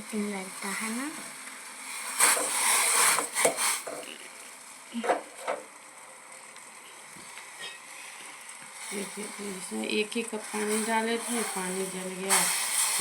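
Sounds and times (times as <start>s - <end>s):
pan hissing on stove: 0.0s - 13.0s.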